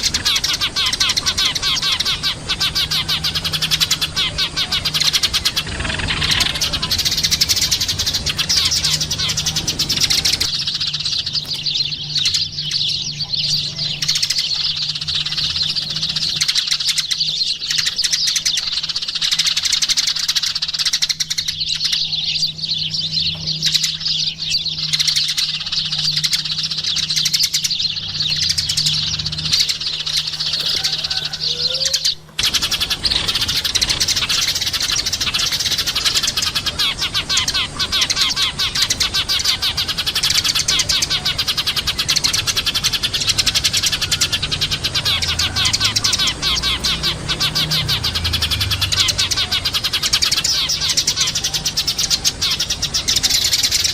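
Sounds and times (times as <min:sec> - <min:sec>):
sparrows chirping: 0:00.0 - 0:53.9.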